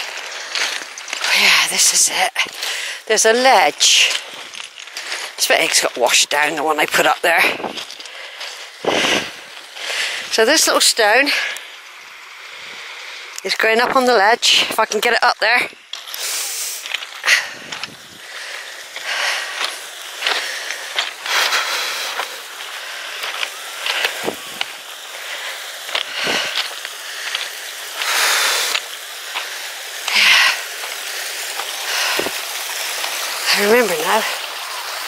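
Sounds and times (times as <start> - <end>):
footsteps crunching on pebbles: 0.0 - 12.3, 13.5 - 34.6
small waterfall trickling: 0.0 - 35.0.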